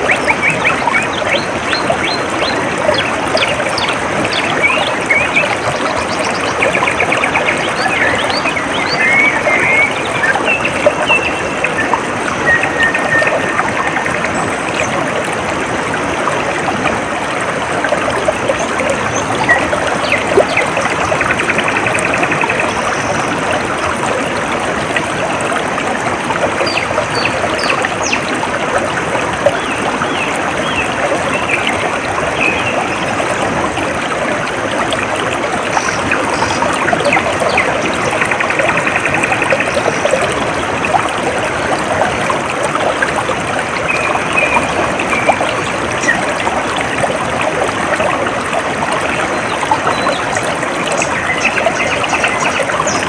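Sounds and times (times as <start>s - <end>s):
stream of water babbling: 0.0s - 53.0s.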